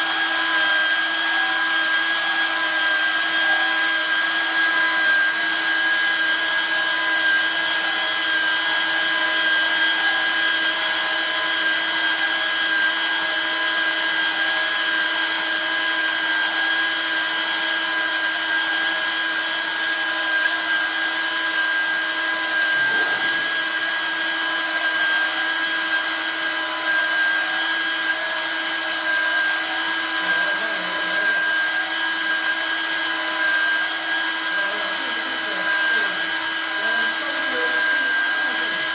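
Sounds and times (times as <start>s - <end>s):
pipe cutting machine motor whine: 0.0s - 38.9s.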